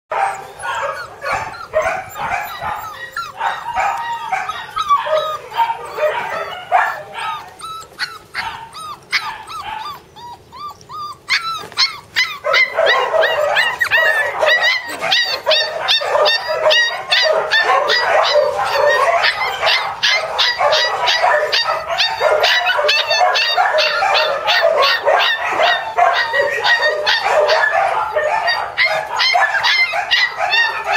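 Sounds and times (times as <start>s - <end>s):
puppies barking high-pitched: 0.1s - 30.9s.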